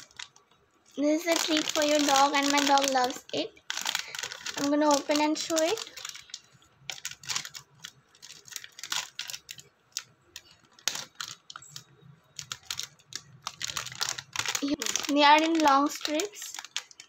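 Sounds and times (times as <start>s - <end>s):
foil pouch crinkling and tearing: 0.0s - 17.0s.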